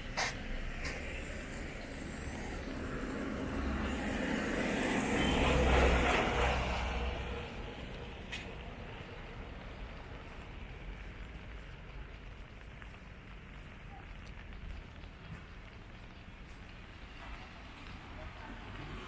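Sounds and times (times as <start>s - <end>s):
tyres hissing on wet road: 0.0s - 19.0s.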